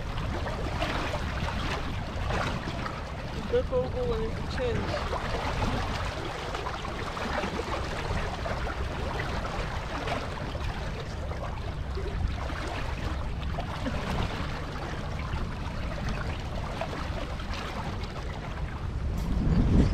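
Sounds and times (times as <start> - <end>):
water rushing along hull: 0.0 - 19.9
wind rumble on microphone: 0.0 - 19.9.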